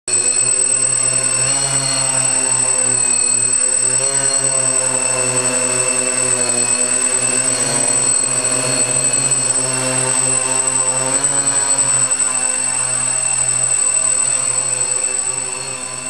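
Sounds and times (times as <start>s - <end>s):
quadcopter propeller buzz: 0.0s - 16.0s
thin high motor whine: 0.1s - 16.0s.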